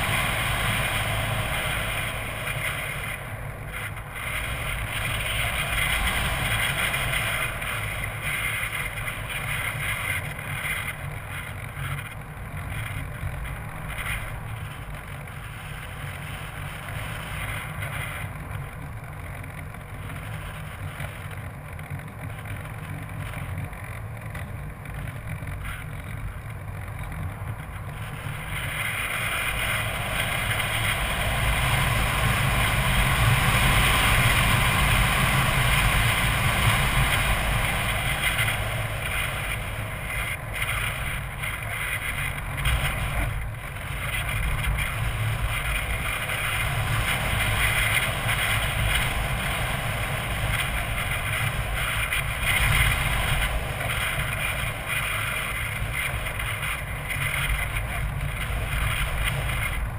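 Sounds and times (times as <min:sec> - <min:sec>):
wind rushing over microphone: 0:00.0 - 0:19.2, 0:22.2 - 0:59.9
electric motor and propeller hum: 0:00.0 - 0:59.9.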